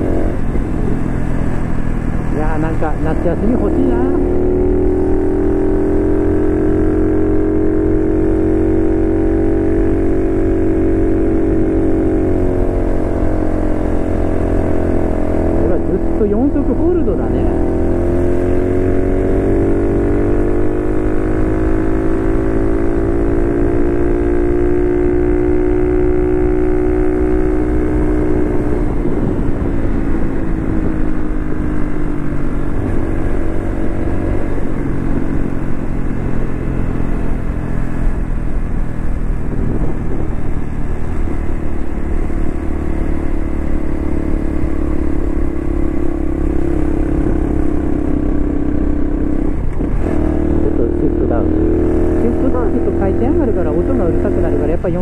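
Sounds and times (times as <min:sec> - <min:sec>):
low rumble of wind and road: 0:00.0 - 0:55.0
motorcycle engine cruising: 0:00.0 - 0:55.0.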